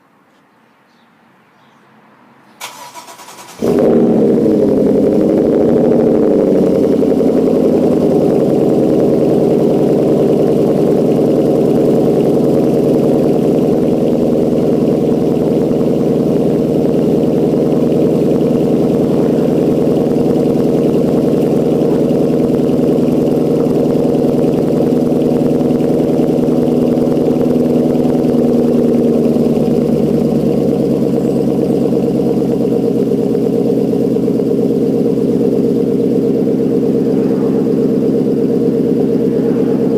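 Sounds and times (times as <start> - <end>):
car engine idling: 2.6 - 39.9.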